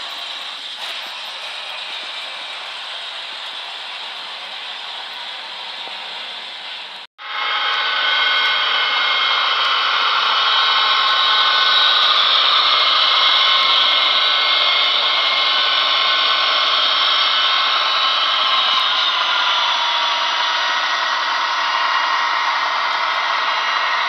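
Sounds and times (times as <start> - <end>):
model locomotives whirring hum: 0.0 - 24.0.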